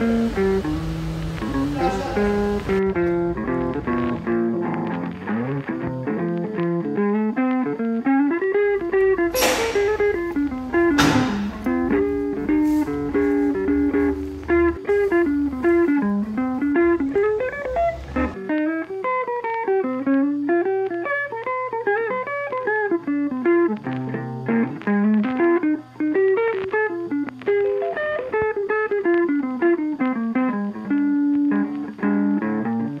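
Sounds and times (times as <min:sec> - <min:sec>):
plucked guitar melody: 0:00.0 - 0:33.0.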